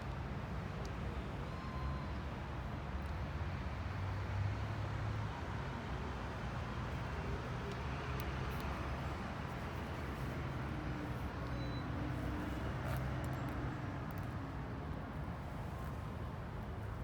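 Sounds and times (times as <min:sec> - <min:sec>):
street traffic rumble: 0:02.2 - 0:17.0.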